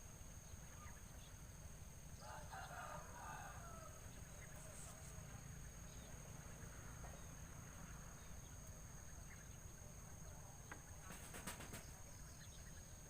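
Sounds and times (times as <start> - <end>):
faint chirps: 0.0 - 13.0.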